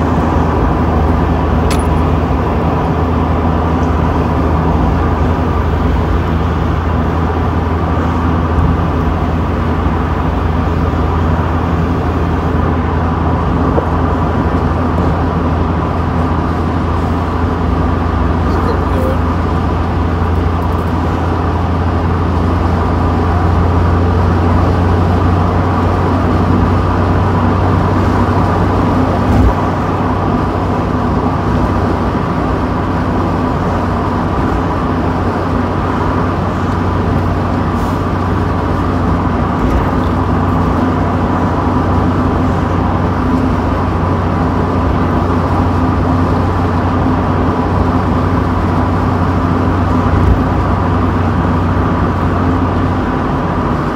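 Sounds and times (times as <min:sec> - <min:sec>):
car engine and road hum: 0:00.0 - 0:53.9
wind and tyre noise: 0:00.0 - 0:53.9.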